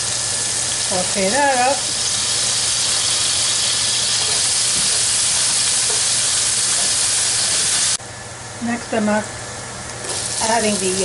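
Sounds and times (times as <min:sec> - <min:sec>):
onions sizzling in a pan: 0:00.0 - 0:08.0, 0:10.0 - 0:11.0.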